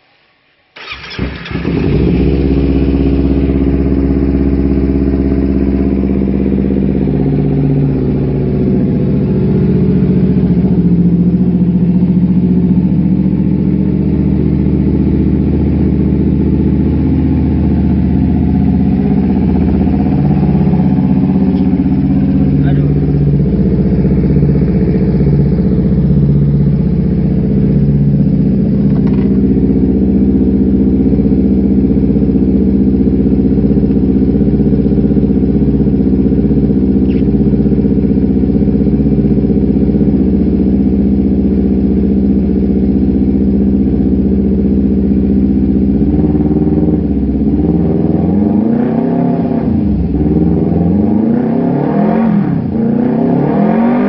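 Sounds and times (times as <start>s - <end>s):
motorcycle engine idling and revving: 0.8s - 54.0s.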